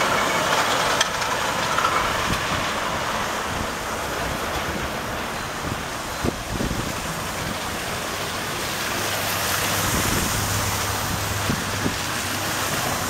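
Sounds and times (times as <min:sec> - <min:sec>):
tyres hissing on wet street: 0:00.0 - 0:13.0
low engine hum: 0:01.8 - 0:13.0.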